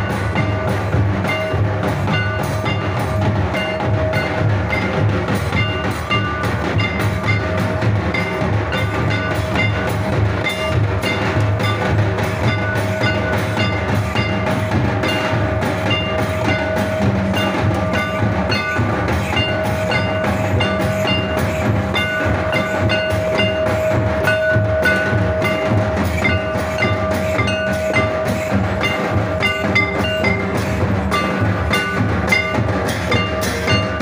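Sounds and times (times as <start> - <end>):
barrel drums beating: 0.0 - 34.0
brass hand cymbals: 0.0 - 34.0
held tone: 0.4 - 34.0.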